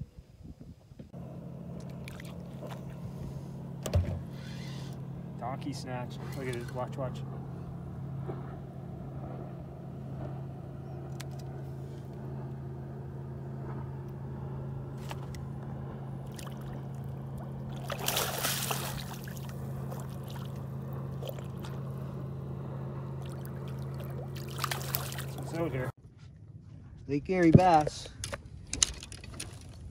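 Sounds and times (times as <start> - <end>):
boat motor humming: 1.0 - 26.0.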